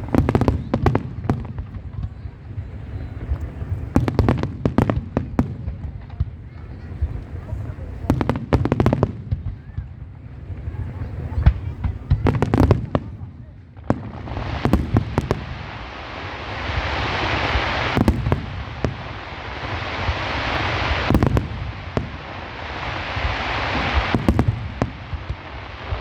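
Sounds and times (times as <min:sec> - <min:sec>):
crackling hiss of fireworks: 0:00.0 - 0:26.0.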